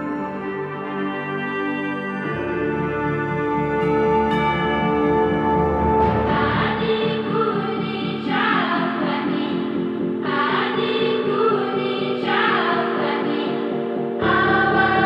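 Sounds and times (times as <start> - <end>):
background music with sustained chords: 0.0 - 15.0.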